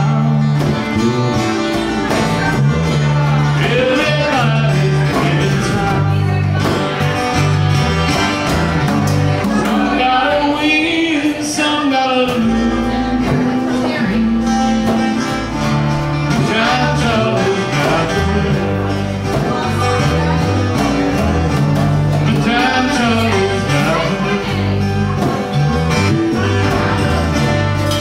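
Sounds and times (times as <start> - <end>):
lap steel guitar sliding notes: 0.0 - 28.0
strummed acoustic guitars: 0.0 - 28.0.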